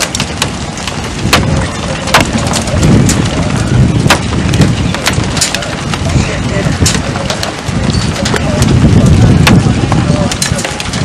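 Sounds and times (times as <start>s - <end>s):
sharp cracks: 0.0s - 11.0s
wind on microphone: 0.0s - 11.0s.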